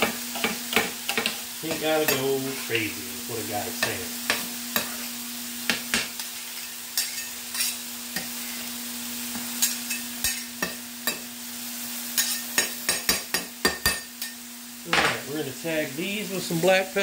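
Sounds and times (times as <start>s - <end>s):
food sizzling: 0.0s - 17.0s.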